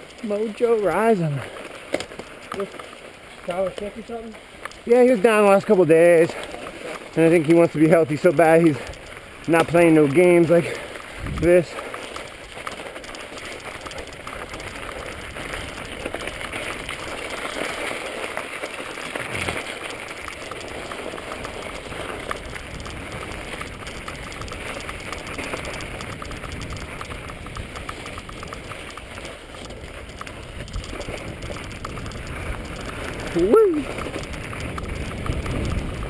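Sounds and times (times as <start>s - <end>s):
bike rattling on rough trail: 0.0s - 36.0s
bike tyres crunching on snow: 0.0s - 36.0s.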